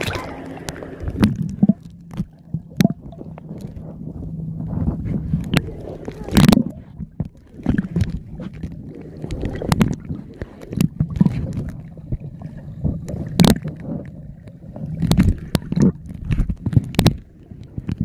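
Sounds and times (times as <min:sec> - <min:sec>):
low rumbling underwater movement: 0:00.0 - 0:18.0
sharp clicks and knocks underwater: 0:00.0 - 0:18.0.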